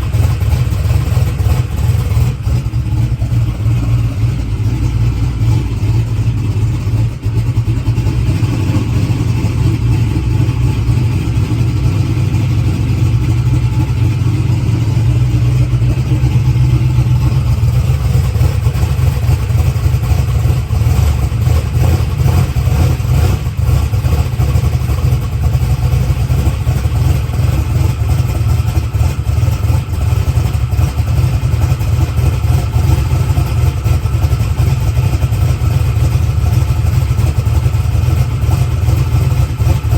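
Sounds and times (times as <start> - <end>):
car engine idling loudly: 0.0 - 39.9.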